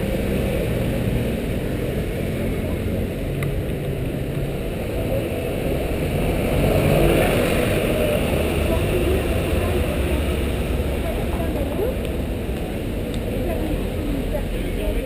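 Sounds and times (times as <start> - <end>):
bus passing close: 0.0 - 15.0
cars and scooters passing: 0.0 - 15.0.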